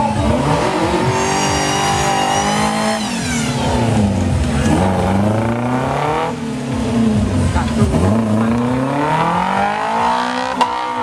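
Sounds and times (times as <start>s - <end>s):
jeep engine revving hard: 0.0s - 11.0s.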